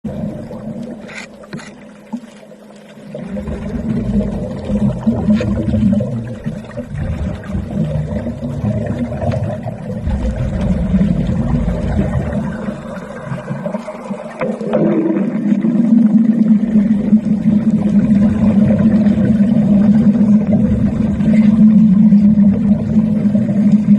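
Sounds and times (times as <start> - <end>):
underwater welding drone: 0.1 - 23.9.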